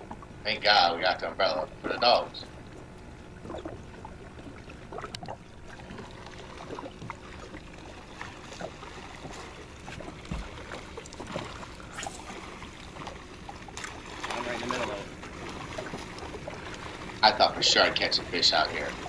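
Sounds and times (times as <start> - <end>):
water lapping against a hull: 0.0 - 19.0
small splashes: 3.4 - 19.0.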